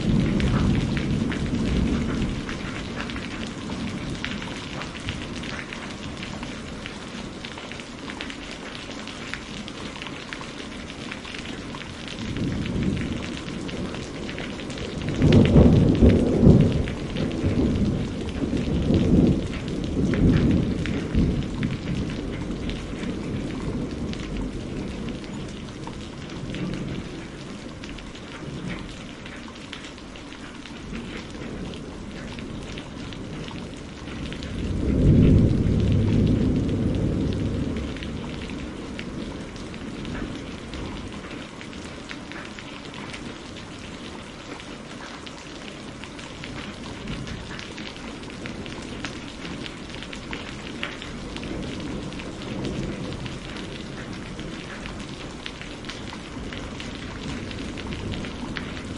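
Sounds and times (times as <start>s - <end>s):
thunder rumbling: 0.0s - 29.6s, 30.8s - 44.3s, 45.6s - 58.9s
steady rain falling: 0.0s - 58.9s.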